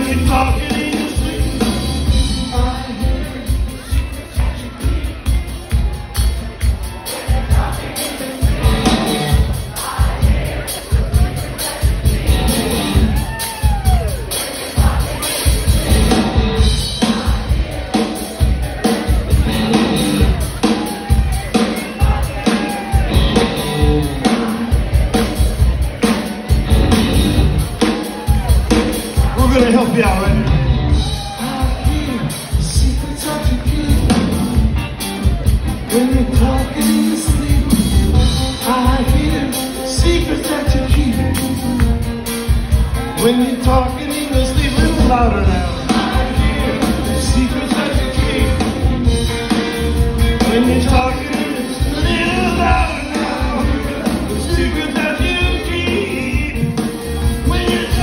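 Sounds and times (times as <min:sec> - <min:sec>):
drum kit beat: 0:00.0 - 0:58.0
live rock band playing: 0:00.0 - 0:58.0.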